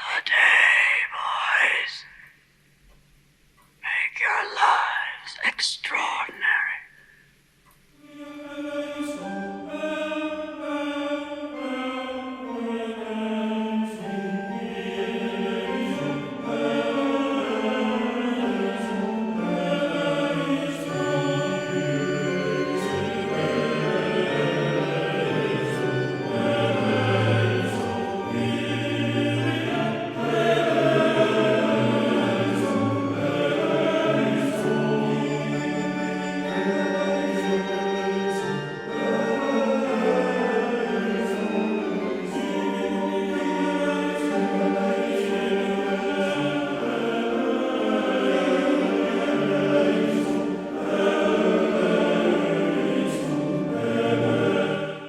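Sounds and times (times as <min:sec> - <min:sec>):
choir singing: 0:08.0 - 0:55.0.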